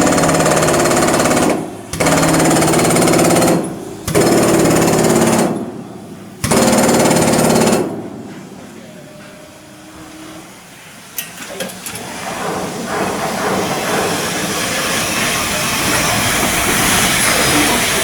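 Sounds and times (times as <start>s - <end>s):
loud steady hiss: 0.0s - 18.0s.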